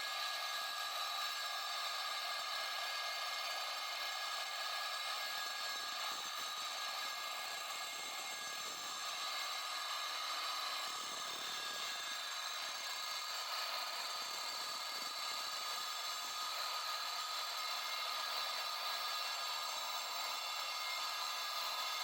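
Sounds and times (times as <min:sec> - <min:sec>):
angle grinder running: 0:00.0 - 0:22.0.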